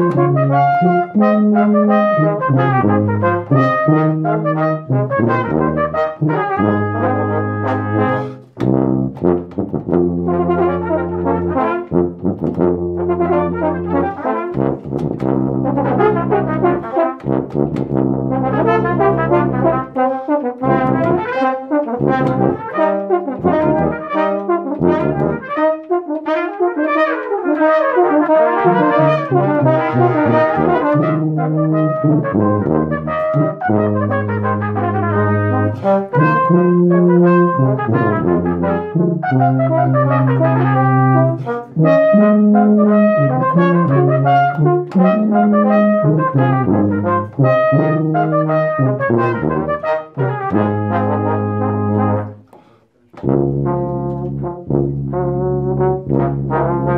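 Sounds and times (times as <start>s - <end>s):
brass ensemble playing: 0.0s - 56.9s.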